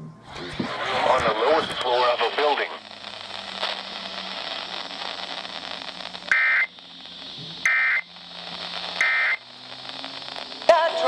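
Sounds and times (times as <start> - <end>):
radio static hiss: 0.2 - 11.0.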